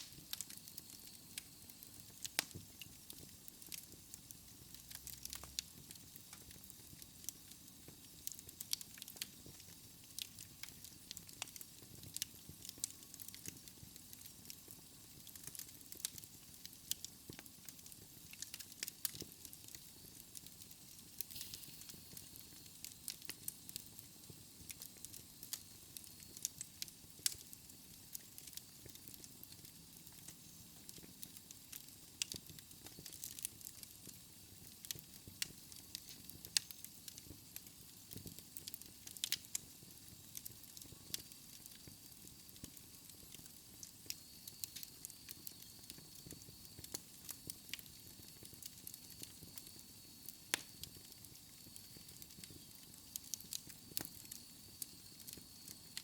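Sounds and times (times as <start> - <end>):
fire hissing: 0.0 - 56.0
wood fire crackling: 0.0 - 56.0.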